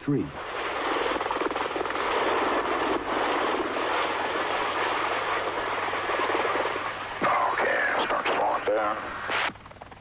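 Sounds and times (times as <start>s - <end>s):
tiltrotor aircraft rotor and turbine: 0.3s - 10.0s.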